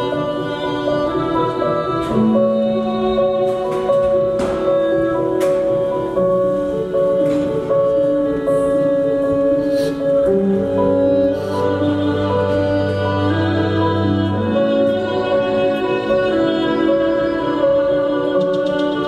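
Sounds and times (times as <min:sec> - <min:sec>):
slow instrumental music: 0:00.0 - 0:19.0.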